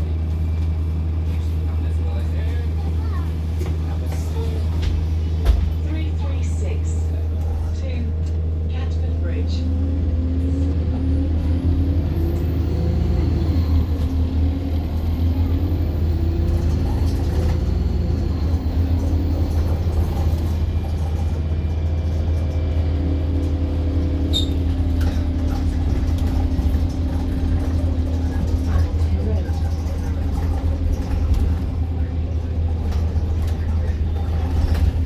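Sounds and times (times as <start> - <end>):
bus engine rumbling: 0.0 - 35.0.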